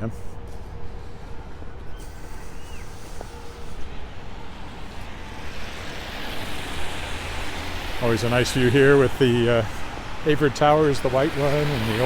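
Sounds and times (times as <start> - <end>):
vehicle passing: 1.6 - 12.0.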